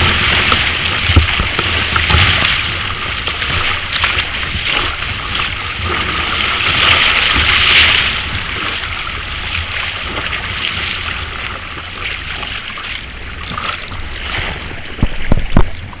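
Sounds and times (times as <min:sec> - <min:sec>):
water splashing around kayak: 0:00.0 - 0:16.0
wind buffeting microphone: 0:00.0 - 0:16.0.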